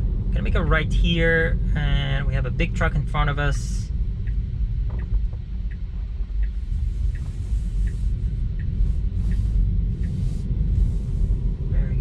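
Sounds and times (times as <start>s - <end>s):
road and tyre rumble: 0.0s - 12.0s
turn signal ticking: 2.3s - 12.0s.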